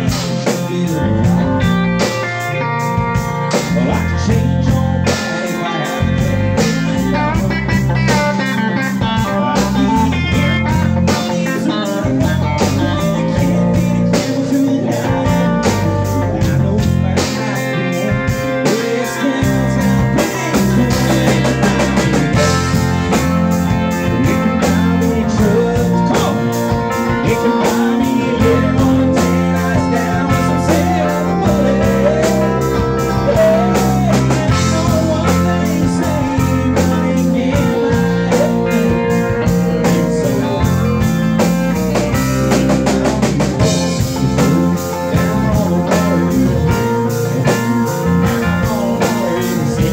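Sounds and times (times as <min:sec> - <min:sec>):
bass: 0:00.0 - 0:49.9
electric guitar lines: 0:00.0 - 0:49.9
keyboard: 0:00.0 - 0:49.9
steady drum beat: 0:00.0 - 0:49.9.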